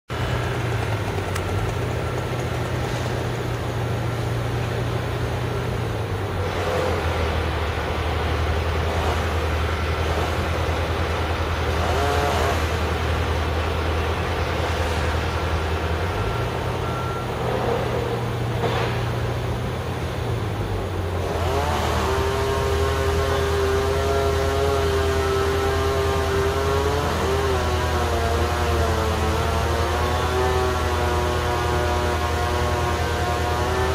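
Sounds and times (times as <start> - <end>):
large machinery engine running: 0.1 - 33.9.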